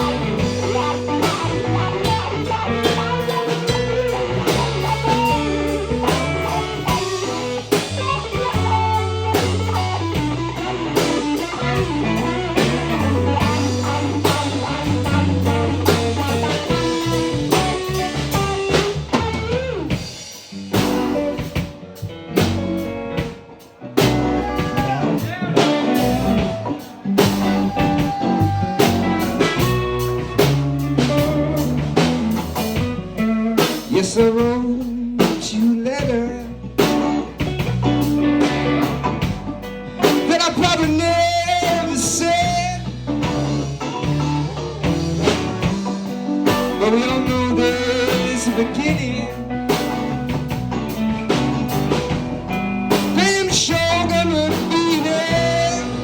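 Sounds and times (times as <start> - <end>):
bass guitar: 0.0 - 56.0
blues guitar lead: 0.0 - 56.0
drum kit: 0.0 - 56.0.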